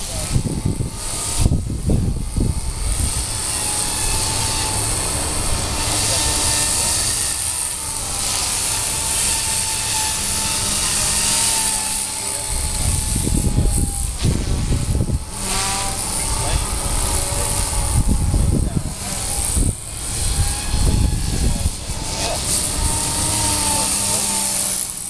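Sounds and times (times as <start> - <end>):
model helicopter whine: 0.0 - 25.0
wind buffeting microphone: 0.0 - 25.0.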